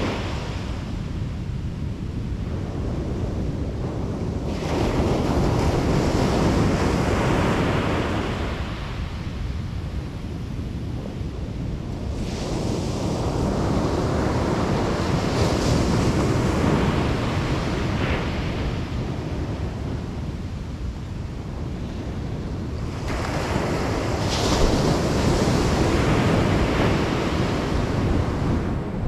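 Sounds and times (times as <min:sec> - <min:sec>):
wind rumble on microphone: 0:00.0 - 0:29.0.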